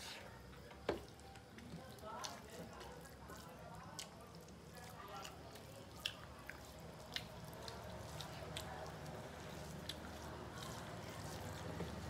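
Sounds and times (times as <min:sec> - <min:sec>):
fingers squishing food: 0:01.0 - 0:12.0.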